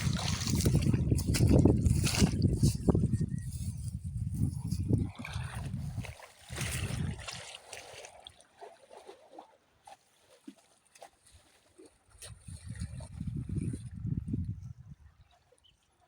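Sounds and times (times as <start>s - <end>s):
water sloshing and splashing: 0.0s - 14.6s.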